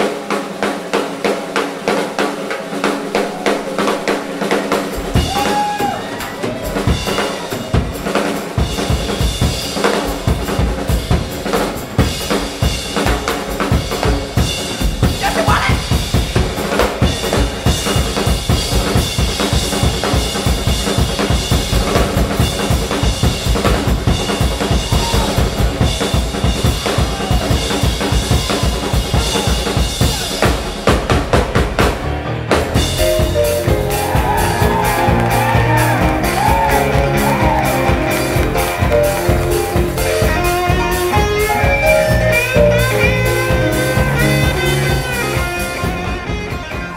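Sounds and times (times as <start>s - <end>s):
drum kit solo: 0.0s - 46.9s.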